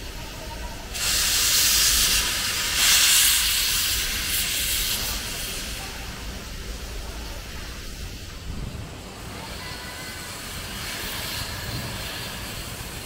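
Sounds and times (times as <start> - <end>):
steam locomotive venting steam: 0.0 - 13.0.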